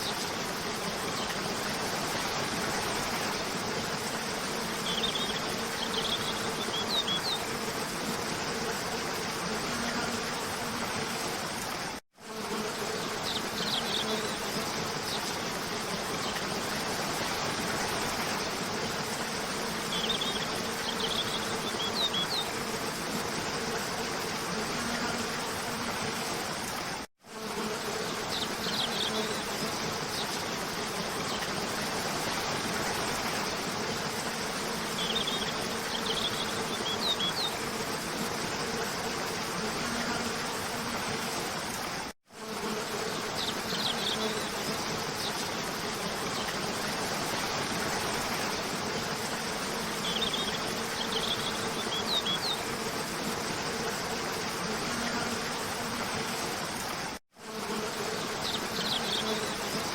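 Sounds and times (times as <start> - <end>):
low insect buzz: 0.0 - 59.9.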